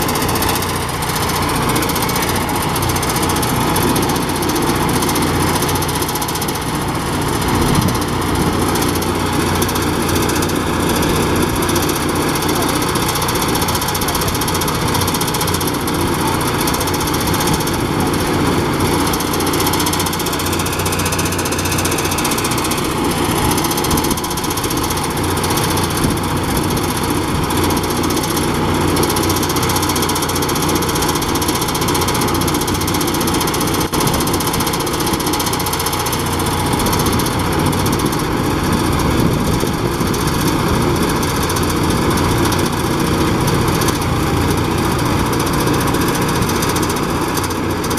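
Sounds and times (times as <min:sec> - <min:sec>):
rice thresher running: 0:00.0 - 0:47.9.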